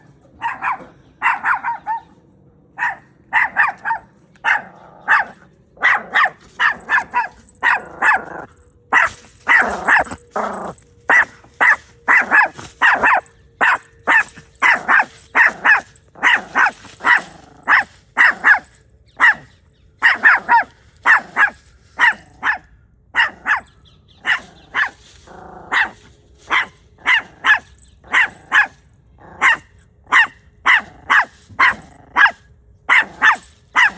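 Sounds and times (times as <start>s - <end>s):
puppy barking: 0.4s - 33.9s.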